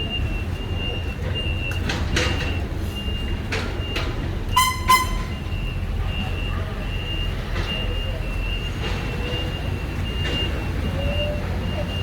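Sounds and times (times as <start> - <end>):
low engine rumble: 0.0 - 12.0
reversing alarm beeps: 0.0 - 12.0.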